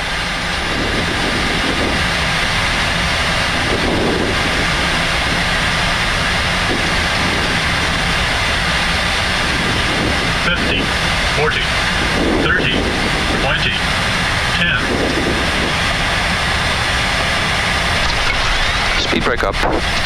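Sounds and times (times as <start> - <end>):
airflow over cockpit: 0.0 - 20.0
jet engines running: 0.0 - 20.0.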